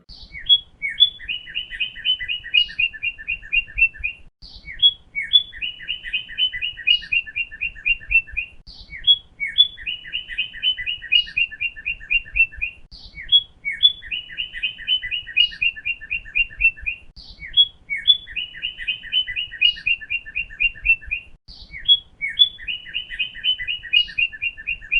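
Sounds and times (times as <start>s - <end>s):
songbird singing trills: 0.0s - 24.9s.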